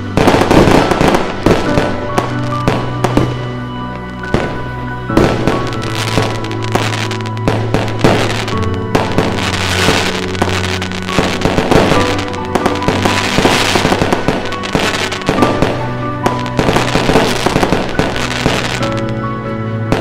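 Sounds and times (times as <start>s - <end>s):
fireworks bursting and crackling: 0.0s - 20.0s
music with long held notes: 0.0s - 20.0s.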